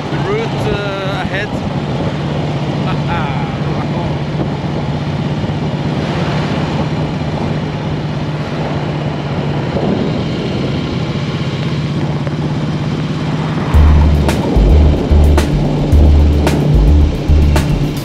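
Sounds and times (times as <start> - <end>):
motorcycle engine drone: 0.0 - 18.0
road noise: 0.0 - 18.0
wind noise: 0.0 - 18.0.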